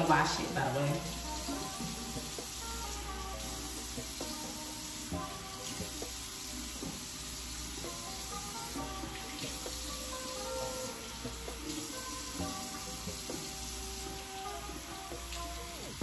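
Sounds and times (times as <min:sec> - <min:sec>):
background music: 0:00.0 - 0:16.0
tap water running into sink: 0:00.0 - 0:16.0.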